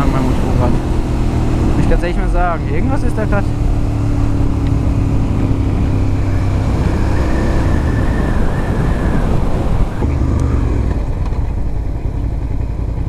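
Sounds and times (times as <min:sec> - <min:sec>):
wind rushing: 0:00.0 - 0:11.8
motorcycle engine running: 0:00.0 - 0:13.0.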